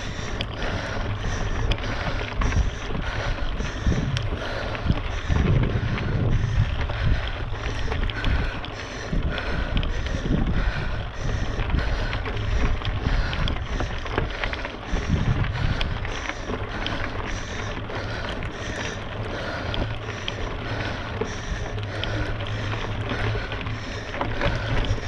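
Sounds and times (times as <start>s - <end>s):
tyre and riding noise: 0.0s - 25.0s
wind rumbling on microphone: 0.0s - 25.0s.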